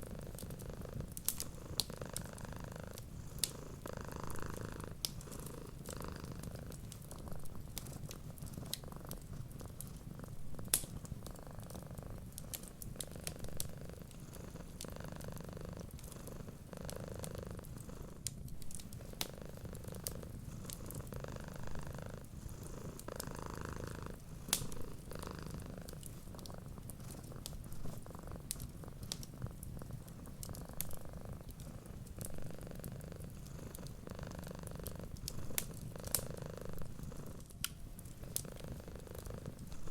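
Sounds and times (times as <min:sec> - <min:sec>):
cat purring: 0:00.0 - 0:39.9
wood fire crackling: 0:00.0 - 0:39.9.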